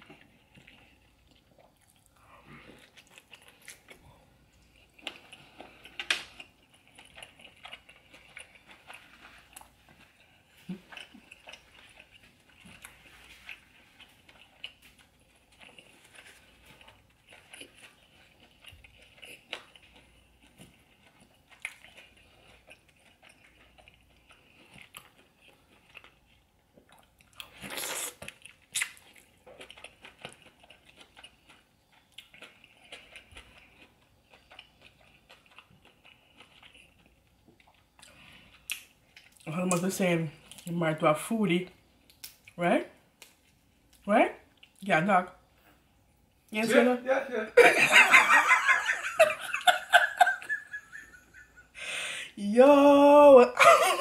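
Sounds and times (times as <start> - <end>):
chewing with wet mouth clicks: 0.0 - 40.8, 42.0 - 44.8.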